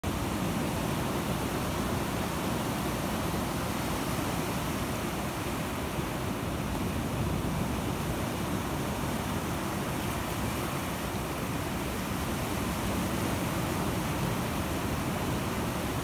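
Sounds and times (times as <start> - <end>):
surf washing up beach: 0.0 - 16.0.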